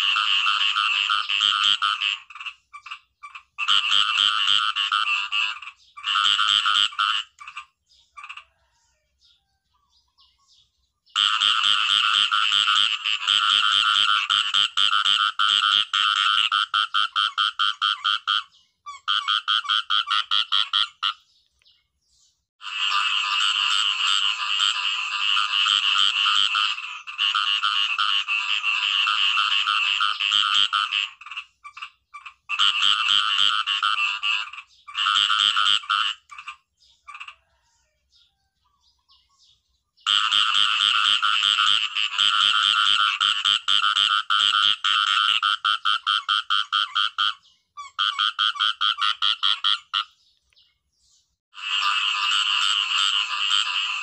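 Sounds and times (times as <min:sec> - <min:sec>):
frogs calling in rattling pulses: 0:00.0 - 0:08.7, 0:11.1 - 0:21.3, 0:22.6 - 0:37.6, 0:40.0 - 0:50.2, 0:51.6 - 0:54.0.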